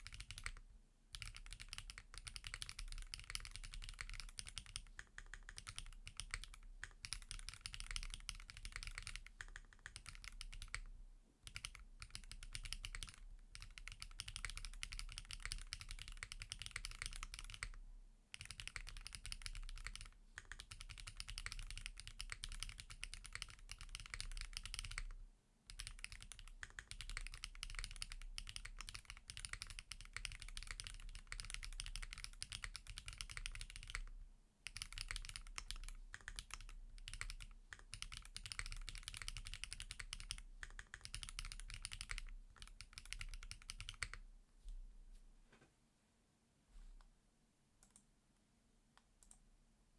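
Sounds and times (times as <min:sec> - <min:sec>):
fast mechanical keyboard typing: 0:00.0 - 0:44.2.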